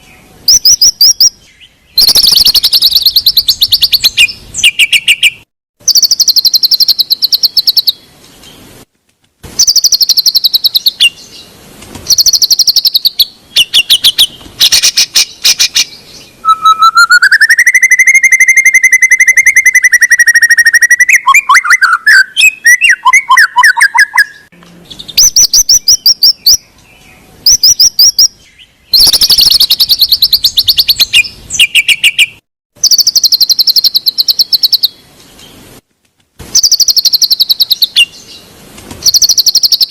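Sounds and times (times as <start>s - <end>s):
songbird buzzy trills and whistles: 0.0s - 8.7s, 9.5s - 35.6s, 36.5s - 39.9s.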